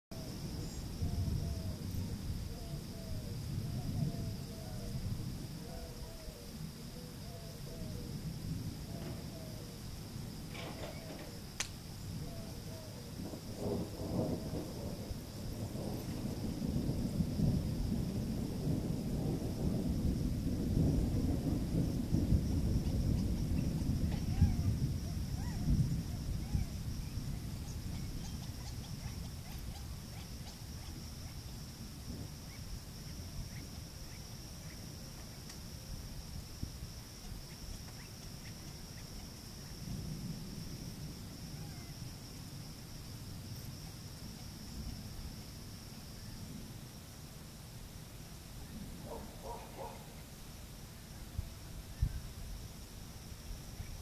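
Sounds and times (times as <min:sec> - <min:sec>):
low rumbling thunder: 0:00.1 - 0:50.4
insects buzzing: 0:00.1 - 0:54.0.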